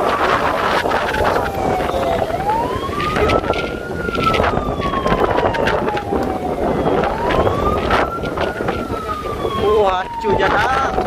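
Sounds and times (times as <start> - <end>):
siren wailing: 0.0 - 11.0
storm wind on microphone: 0.0 - 11.0.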